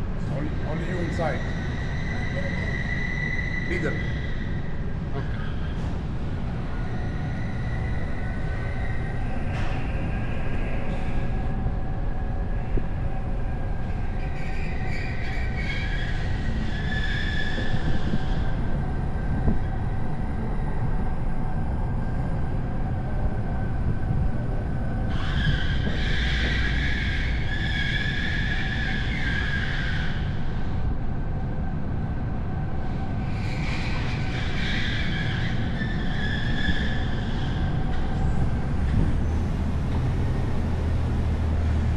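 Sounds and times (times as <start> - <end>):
car engine and tyres rumbling: 0.0 - 41.9.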